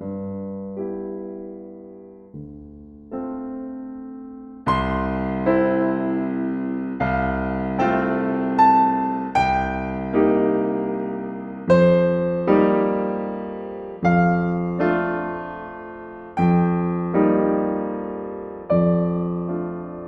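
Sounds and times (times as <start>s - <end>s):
soft solo piano chords: 0.0s - 20.0s.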